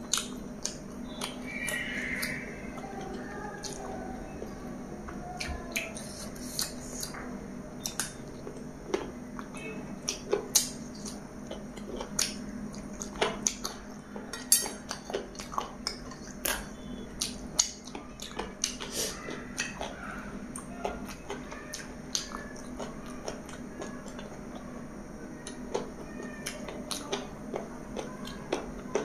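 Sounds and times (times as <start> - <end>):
chewing with lip smacks: 0.0 - 24.7.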